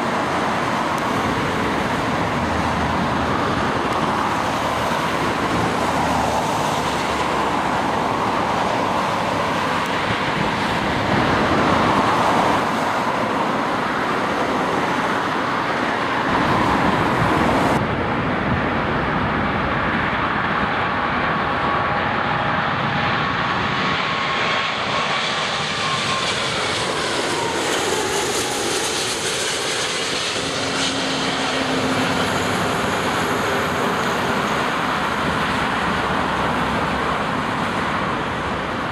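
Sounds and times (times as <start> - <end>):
jet engine rush: 0.0 - 38.9
jet engine whine falling in pitch: 0.0 - 38.9.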